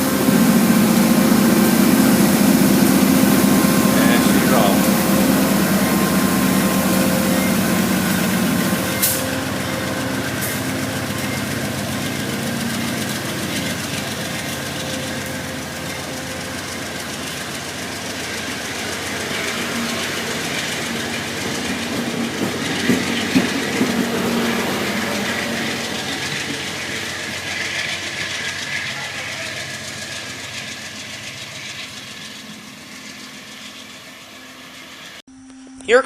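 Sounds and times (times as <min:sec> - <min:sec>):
engine note easing off: 0:00.0 - 0:35.2
train rolling on rails: 0:00.0 - 0:35.2.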